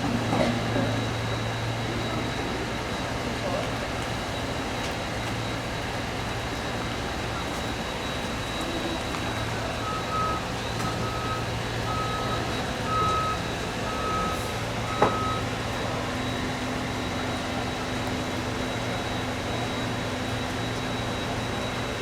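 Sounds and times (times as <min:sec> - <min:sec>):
truck engine running: 0:00.0 - 0:22.0
truck reversing alarm beeping: 0:00.0 - 0:22.0.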